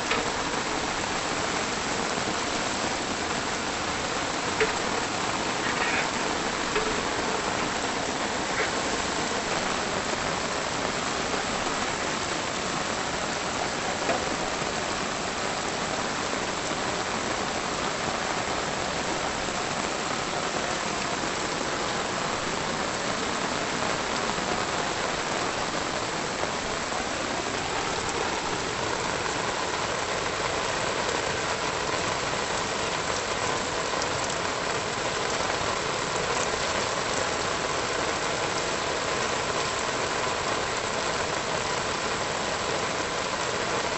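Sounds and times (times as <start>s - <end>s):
steady rain: 0.0s - 43.9s.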